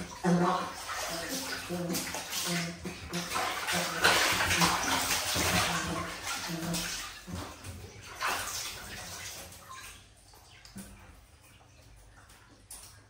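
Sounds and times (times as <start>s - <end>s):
bathwater splashing: 0.0s - 13.0s.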